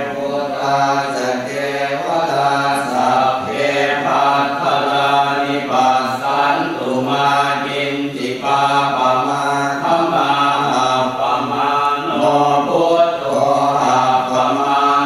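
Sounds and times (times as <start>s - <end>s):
monotone chanting: 0.0s - 15.0s.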